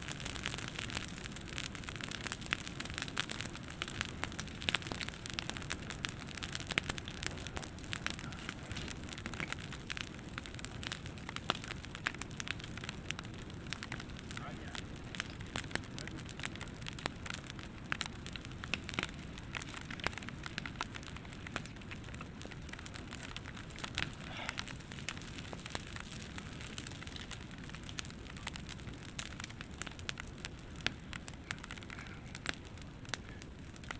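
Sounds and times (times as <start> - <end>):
campfire crackling and popping: 0.0 - 33.9
low roar of flames: 0.0 - 33.9.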